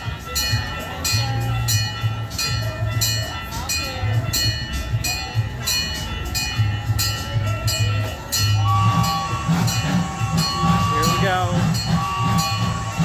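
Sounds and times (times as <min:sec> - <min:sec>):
music: 0:00.0 - 0:13.0
train engine chugging: 0:00.0 - 0:13.0
steady higher tone: 0:00.3 - 0:13.0.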